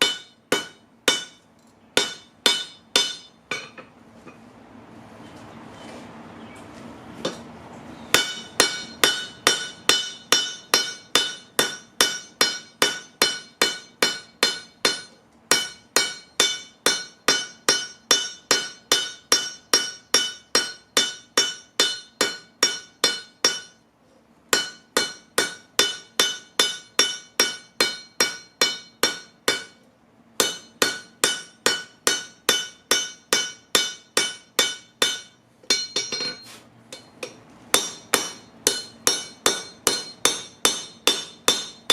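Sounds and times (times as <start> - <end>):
hammer ringing on metal anvil: 0.0 - 1.4, 2.0 - 3.9, 8.1 - 23.8, 24.5 - 29.8, 30.4 - 41.9.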